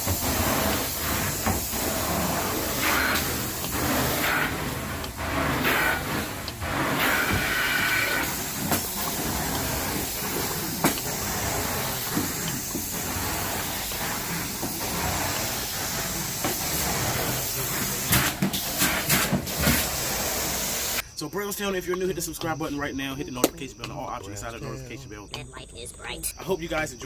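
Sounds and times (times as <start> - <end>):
carpet cleaning machine hissing: 0.0 - 25.4.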